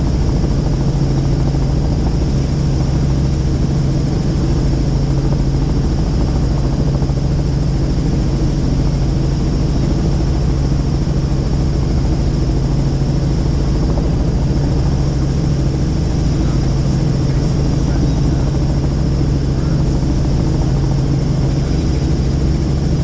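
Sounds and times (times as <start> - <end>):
helicopter rotor and engine: 0.0 - 23.0.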